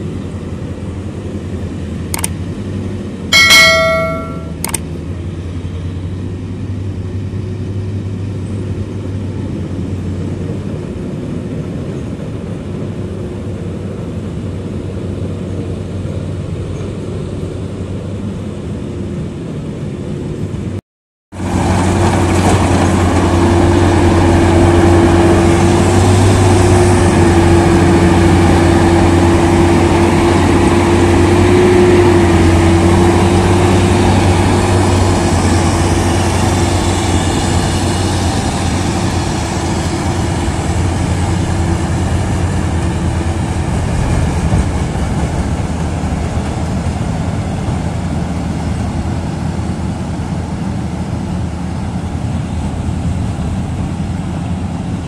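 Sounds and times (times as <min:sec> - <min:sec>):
harvester engine drone: 0:00.0 - 0:20.8, 0:21.4 - 0:55.0.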